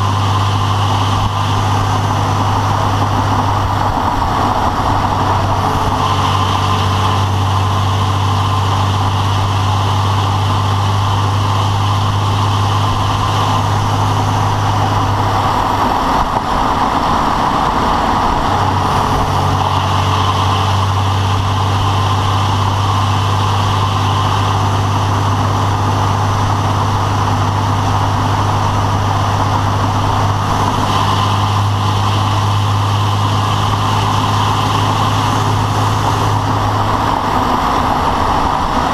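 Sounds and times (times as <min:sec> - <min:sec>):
engine running steadily: 0:00.0 - 0:38.9
rapid rattling noise: 0:00.0 - 0:38.9.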